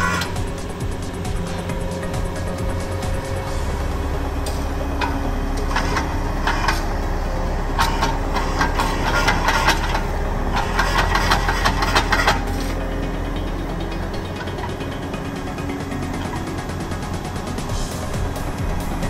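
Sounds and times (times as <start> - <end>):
clattering and rattling knocks: 0.0 - 19.0
engine running: 0.0 - 19.0.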